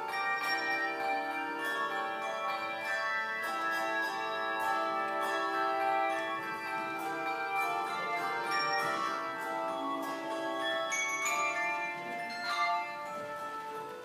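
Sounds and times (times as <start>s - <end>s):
handbell choir ringing chords: 0.0s - 14.0s.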